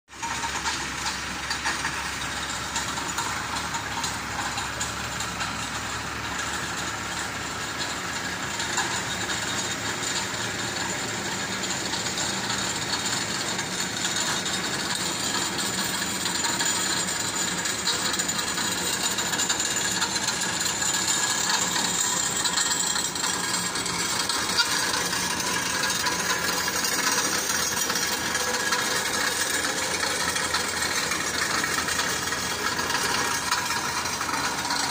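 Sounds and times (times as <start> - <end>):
truck engines and machinery running: 0.1 - 34.9.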